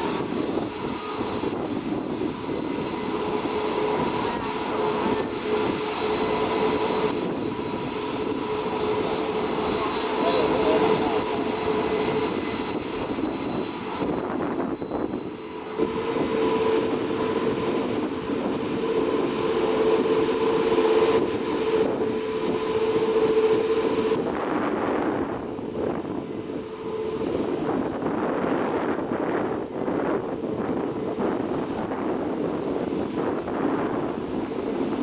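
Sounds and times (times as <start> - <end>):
jet engine rumble: 0.0 - 35.0
jet engine whine: 0.0 - 35.0.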